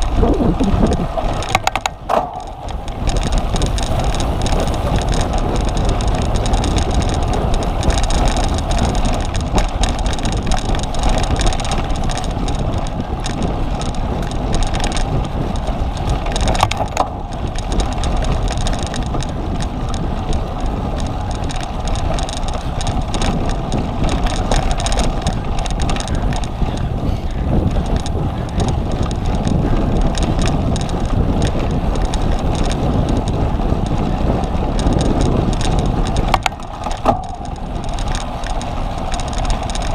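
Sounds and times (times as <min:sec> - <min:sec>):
bike rattling over rough ground: 0:00.0 - 0:39.9
wind rushing over microphone: 0:00.0 - 0:39.9.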